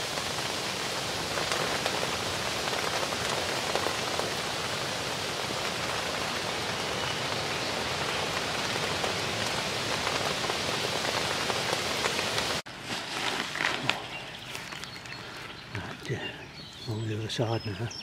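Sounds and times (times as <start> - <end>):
steady rain falling: 0.0 - 17.8.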